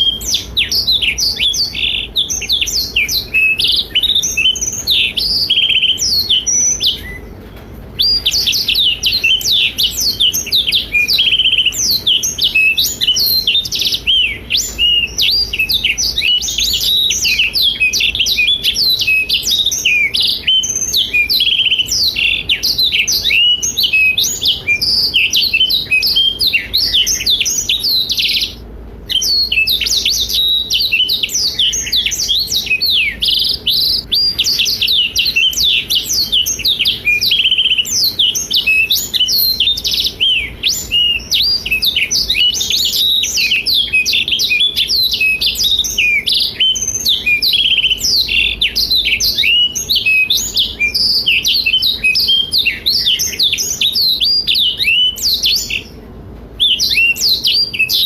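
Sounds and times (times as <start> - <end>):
canary singing warbling song: 0.0 - 58.0.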